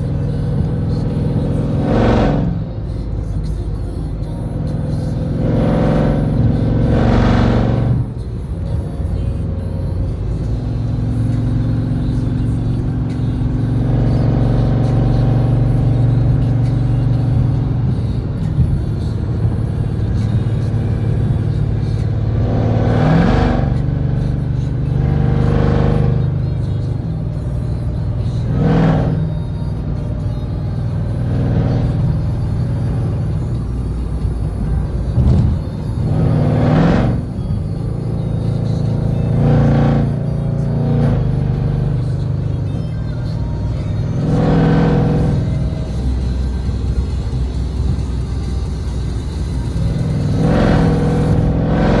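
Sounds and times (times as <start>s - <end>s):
car engine droning from inside cabin: 0.0s - 52.0s.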